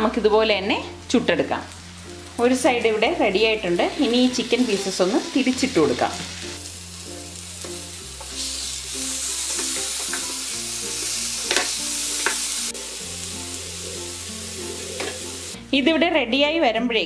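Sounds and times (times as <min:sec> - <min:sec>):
chicken sizzling in hot oil: 0:00.5 - 0:15.6.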